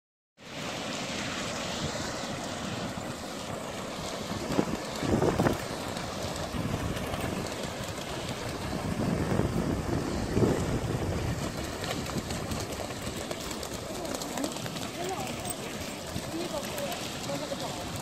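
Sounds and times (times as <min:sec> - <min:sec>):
breaking surf: 0:00.4 - 0:18.0
wind buffeting microphone: 0:01.5 - 0:18.0.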